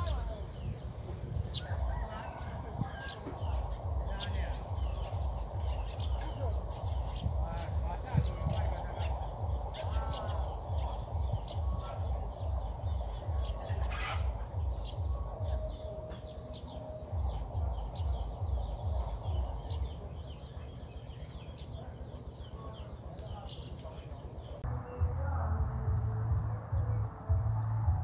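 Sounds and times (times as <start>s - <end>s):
low pulsing rumble: 0.0s - 20.0s, 24.6s - 28.0s
birds chirping: 0.0s - 28.0s.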